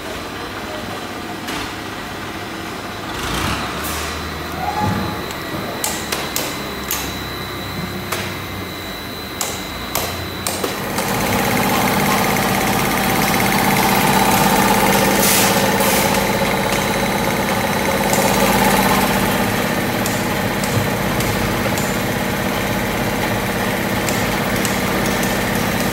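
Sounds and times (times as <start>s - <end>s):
industrial machinery hum: 0.0s - 25.9s
high whine: 4.0s - 25.9s.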